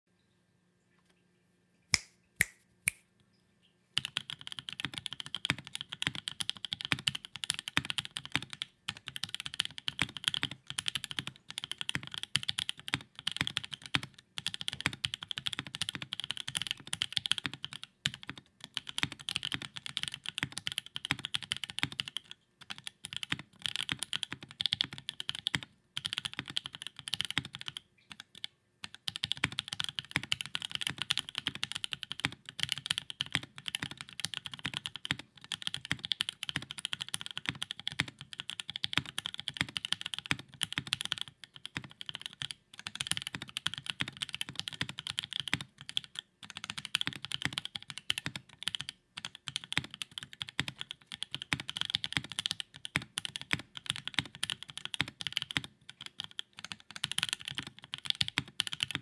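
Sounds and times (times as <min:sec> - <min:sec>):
fast typing on mechanical keyboard: 0:04.0 - 0:59.0.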